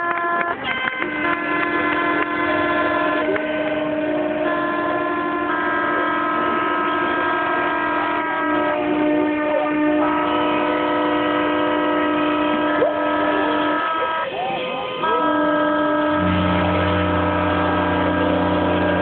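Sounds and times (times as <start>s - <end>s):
ship horns blasting: 0.0s - 19.0s.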